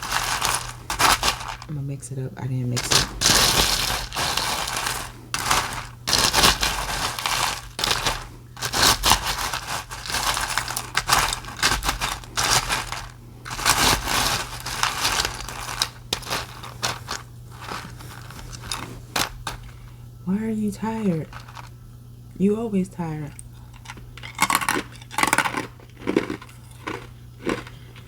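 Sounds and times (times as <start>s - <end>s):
ice clattering in a bowl: 0.0s - 1.8s, 2.6s - 20.0s, 20.6s - 21.8s, 23.6s - 27.7s.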